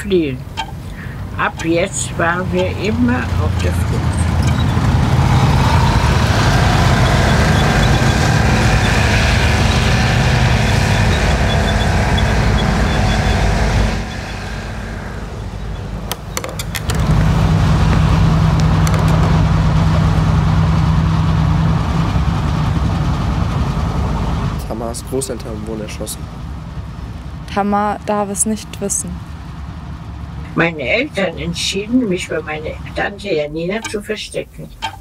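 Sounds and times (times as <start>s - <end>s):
steady low drone: 0.0s - 33.2s
tank engines rumbling: 0.0s - 35.0s.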